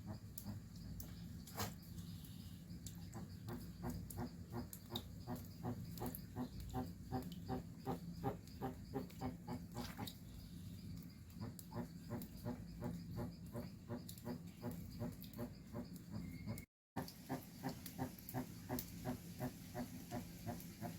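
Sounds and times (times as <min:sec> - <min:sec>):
tortoise clucking: 0:00.0 - 0:20.9.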